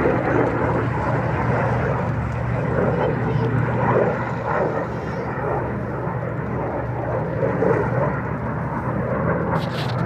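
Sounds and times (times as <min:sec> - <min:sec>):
distant aircraft rumble: 0:00.0 - 0:10.0.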